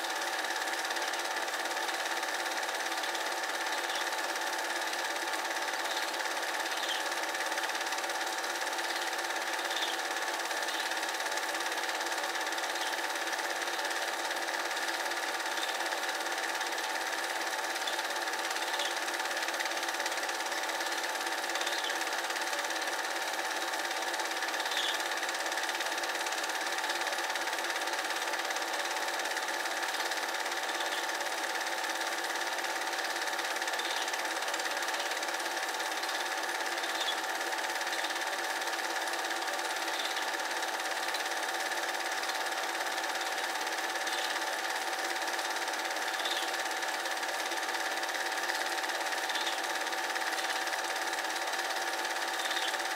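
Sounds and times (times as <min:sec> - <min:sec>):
film projector whirring: 0:00.0 - 0:52.9.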